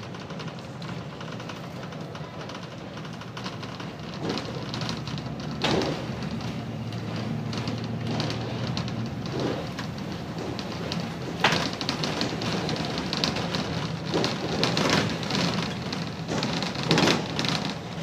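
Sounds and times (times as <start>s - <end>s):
bus diesel engine droning: 0.0s - 18.0s
road noise: 0.0s - 18.0s
knocks and bumps: 3.0s - 18.0s
body rattles: 3.1s - 18.0s.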